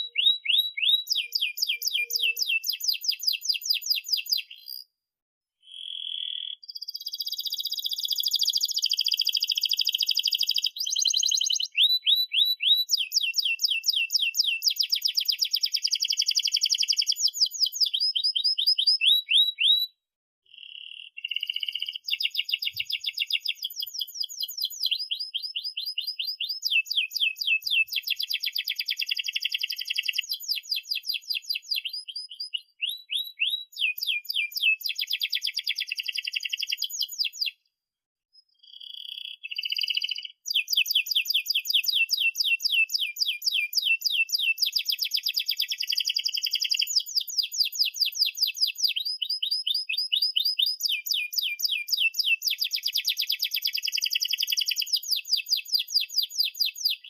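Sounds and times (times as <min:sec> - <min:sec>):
canary singing rolling trills: 0:00.0 - 0:04.9, 0:05.6 - 0:19.9, 0:20.5 - 0:37.5, 0:38.4 - 0:57.0.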